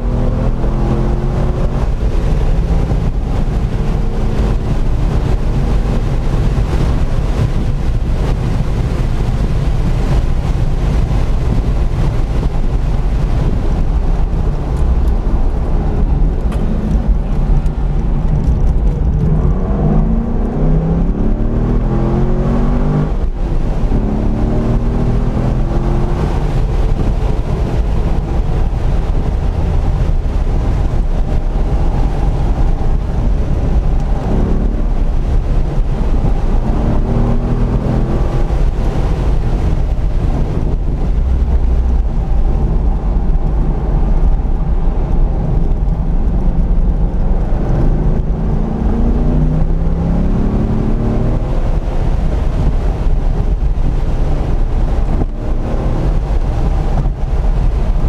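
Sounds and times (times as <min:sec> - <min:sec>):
car engine revving hard: 0:00.0 - 0:58.0
road and wind rumble: 0:00.0 - 0:58.0.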